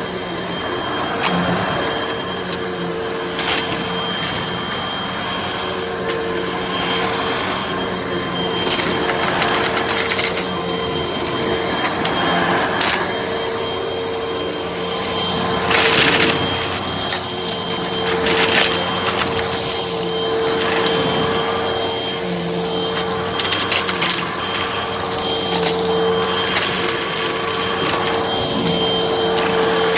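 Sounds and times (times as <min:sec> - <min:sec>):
vacuum cleaner motor hum: 0:00.0 - 0:29.9
debris crackling in vacuum: 0:00.8 - 0:29.9.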